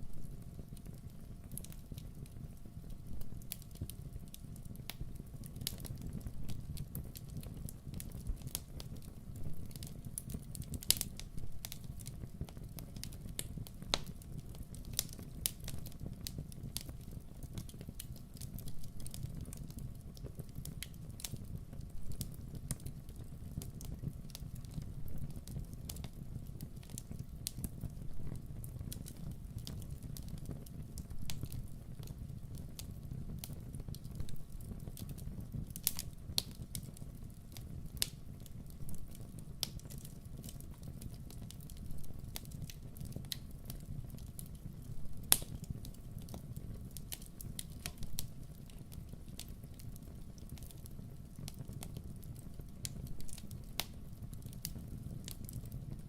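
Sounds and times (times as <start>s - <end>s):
burning wood crackling and popping: 0.0s - 56.0s
low rumble of flames: 0.0s - 56.0s.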